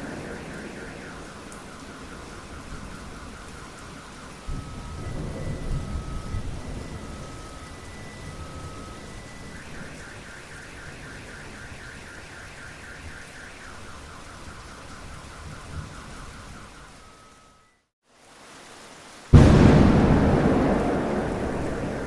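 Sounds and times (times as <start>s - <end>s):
thunder rumble: 0.0s - 16.7s, 19.3s - 22.0s
car alarm warbling: 0.0s - 17.8s
steady rain: 0.0s - 22.0s.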